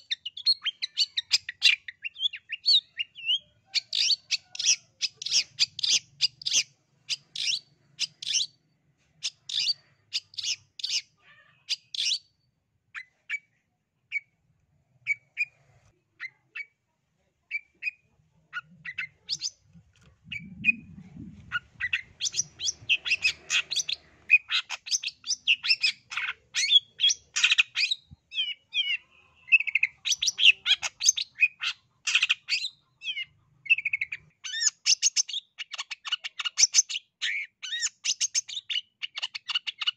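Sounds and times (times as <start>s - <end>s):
bird chattering song: 0.0s - 8.6s, 9.2s - 14.4s, 17.5s - 39.9s.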